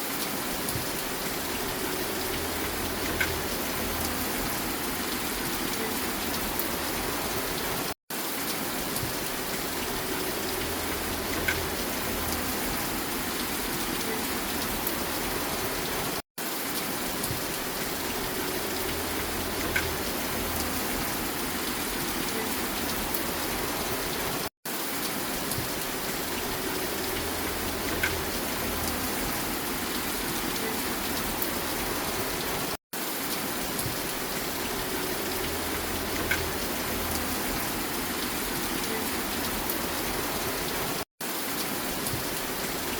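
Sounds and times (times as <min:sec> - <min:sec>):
steady rain: 0:00.0 - 0:42.9
rain drop ticks: 0:00.6 - 0:07.6, 0:08.4 - 0:15.9, 0:16.7 - 0:24.2, 0:25.0 - 0:32.4, 0:33.3 - 0:40.8.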